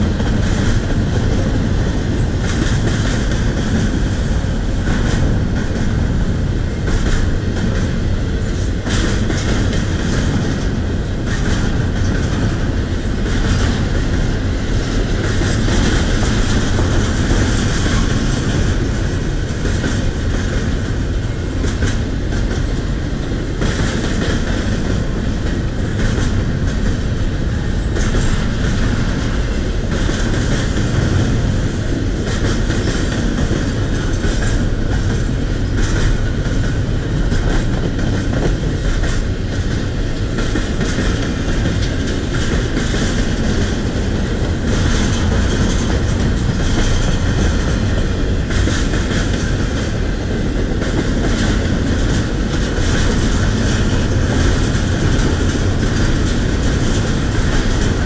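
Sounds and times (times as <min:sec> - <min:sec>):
freight train wheels rumbling: 0:00.0 - 0:58.0
wheels clicking over rail joints: 0:00.0 - 0:58.0.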